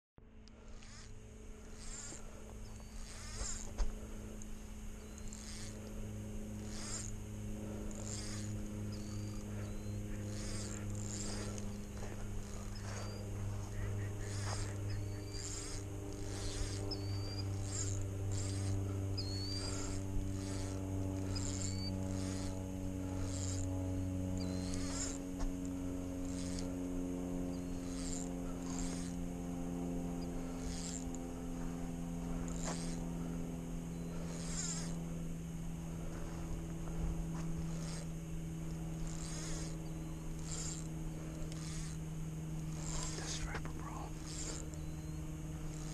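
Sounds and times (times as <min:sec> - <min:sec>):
steady low drone: 0:00.2 - 0:45.9.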